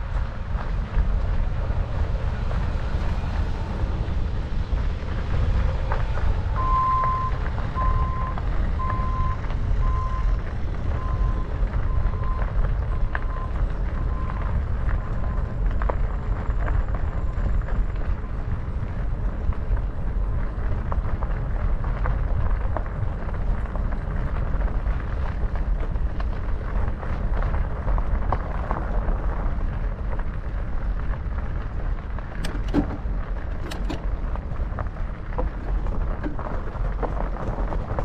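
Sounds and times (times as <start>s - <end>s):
fat tires rolling over gravel: 0.0s - 38.0s
gravel crunching and clicking: 0.0s - 38.0s.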